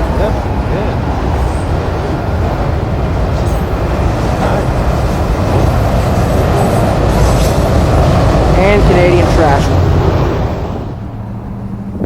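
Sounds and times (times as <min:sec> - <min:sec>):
steel train wheels rumbling on rail: 0:00.0 - 0:12.0.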